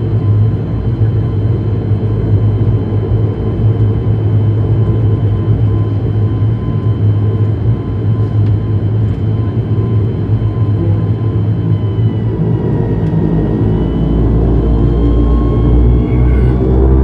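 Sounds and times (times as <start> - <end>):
airliner engines droning in cabin: 0.0 - 17.0.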